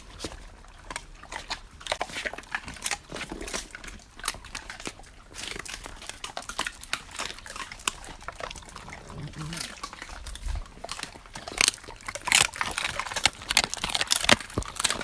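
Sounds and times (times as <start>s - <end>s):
dogs crunching bones: 0.0s - 15.0s.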